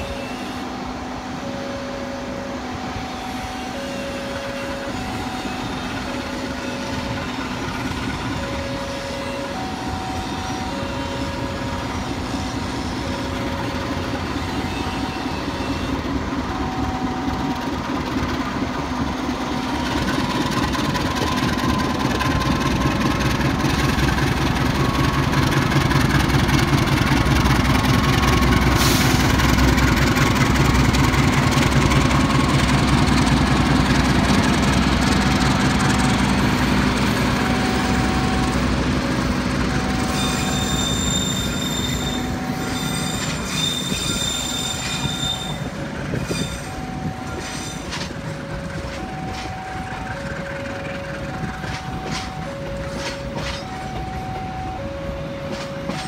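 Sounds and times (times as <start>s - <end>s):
locomotive engine rumble: 0.0s - 56.0s.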